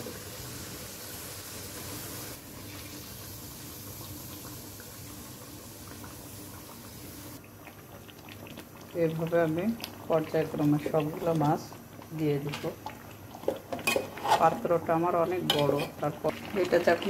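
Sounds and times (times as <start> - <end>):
curry simmering and bubbling: 1.8 - 17.0.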